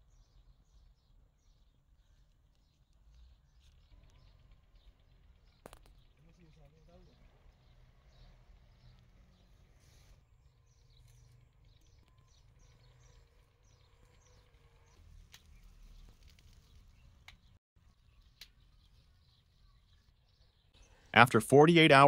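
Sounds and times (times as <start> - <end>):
bird chirping softly: 0.0 - 22.0.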